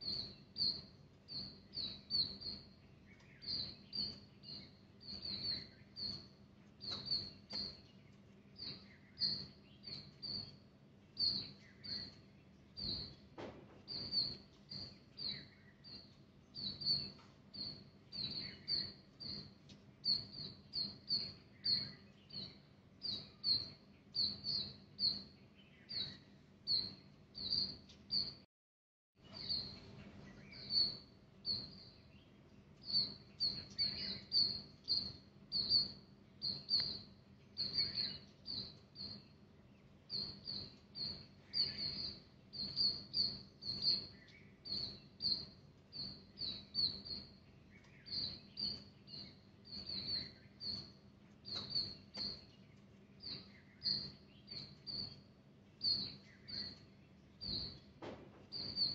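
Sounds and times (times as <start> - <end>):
small bird chirping: 0.0 - 28.5, 29.2 - 58.9.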